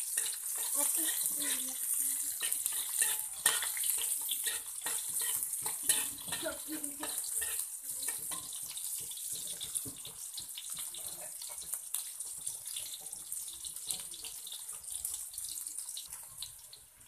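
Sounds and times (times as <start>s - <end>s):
metal spatula stirring in wok: 0.0s - 15.3s
aromatics sizzling in hot oil: 0.0s - 17.0s.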